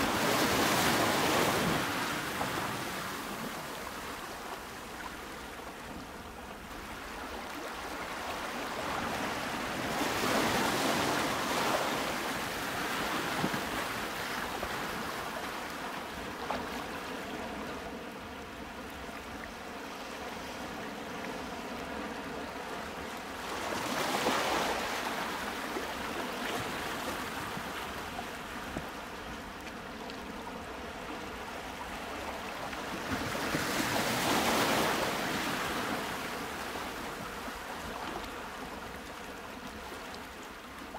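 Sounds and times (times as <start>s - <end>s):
ocean waves surf hiss: 0.0s - 40.9s.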